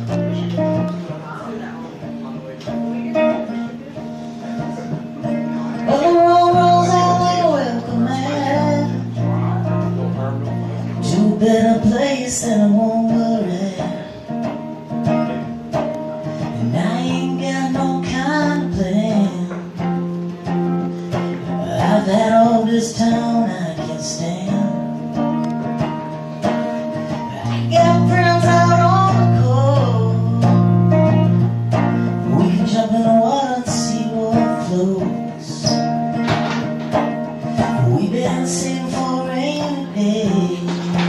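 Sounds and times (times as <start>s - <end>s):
strummed electric guitar: 0.0s - 41.0s
man singing: 4.0s - 36.2s, 37.4s - 41.0s.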